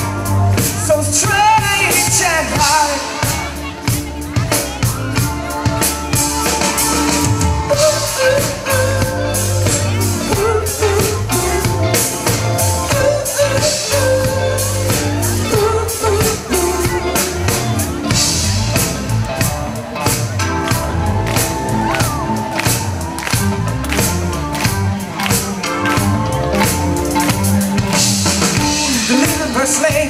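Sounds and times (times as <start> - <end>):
bass line: 0.0 - 30.0
drum kit: 0.0 - 30.0
rock band playing live: 0.0 - 30.0.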